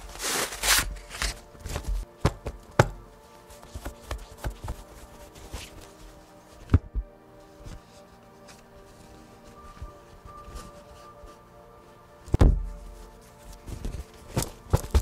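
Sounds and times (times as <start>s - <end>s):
paper band rustling: 0.0s - 11.4s, 12.2s - 15.0s
cloth being handled: 0.0s - 15.0s
soft background music: 0.0s - 15.0s.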